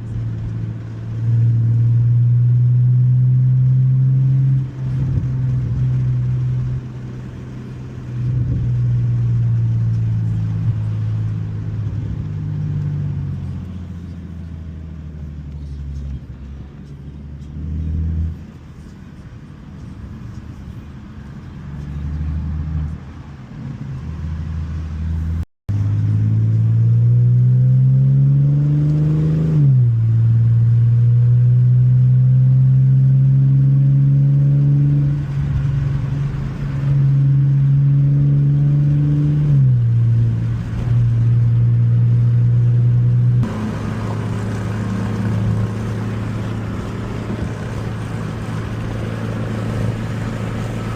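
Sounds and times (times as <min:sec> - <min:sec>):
car exhaust accelerating: 0:00.0 - 0:50.9.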